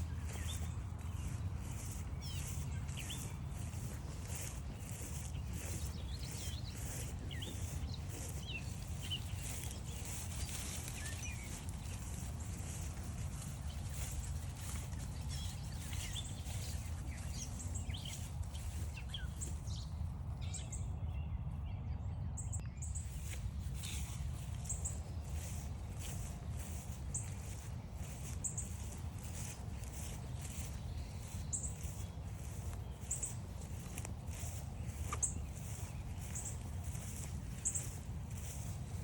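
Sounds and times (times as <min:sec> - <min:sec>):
footsteps crunching: 0:00.0 - 0:20.0, 0:22.9 - 0:39.0
songbirds chirping: 0:00.0 - 0:39.0.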